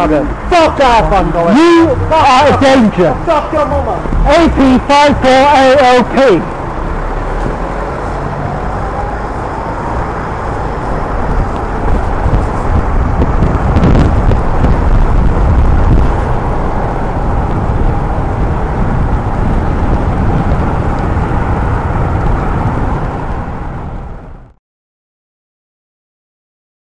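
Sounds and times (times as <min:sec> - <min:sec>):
road noise: 0:00.0 - 0:24.6
wind rushing over microphone: 0:00.0 - 0:24.6.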